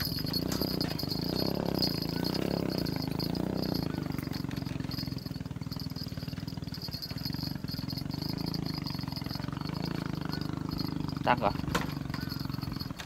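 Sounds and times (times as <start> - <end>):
low pulsing engine drone: 0.0 - 13.0.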